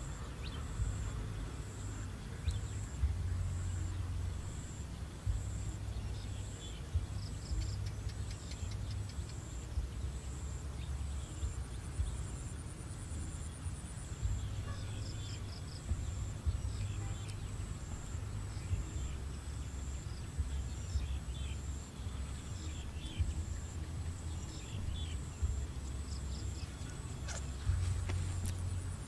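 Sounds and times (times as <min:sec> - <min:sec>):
high insect whine: 0:00.0 - 0:29.0
low rumble: 0:00.4 - 0:29.0.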